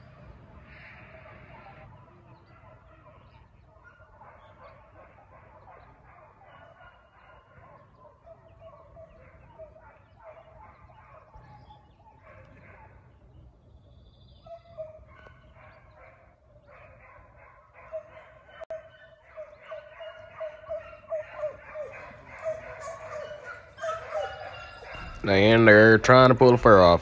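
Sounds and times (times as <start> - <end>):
hounds baying in chorus: 0.0 - 27.0.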